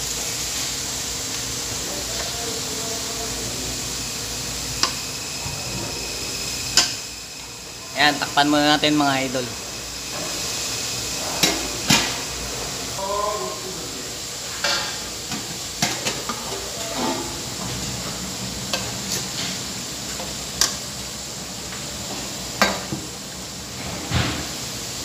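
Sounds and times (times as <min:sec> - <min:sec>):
chicken sizzling in a wok: 0:00.0 - 0:25.0.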